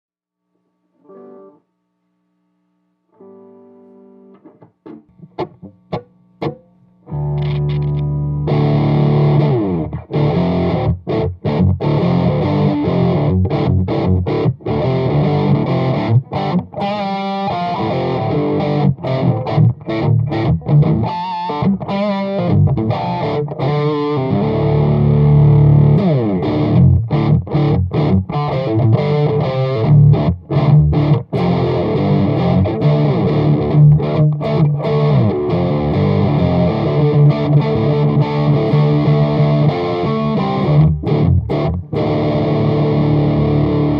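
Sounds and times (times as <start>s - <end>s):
distorted electric guitar: 2.6s - 43.9s.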